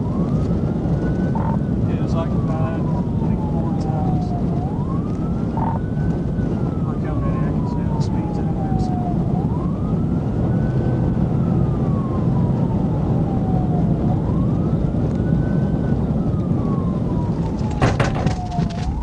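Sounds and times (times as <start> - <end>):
car road and engine noise: 0.0 - 19.0
police siren wailing: 0.0 - 19.0.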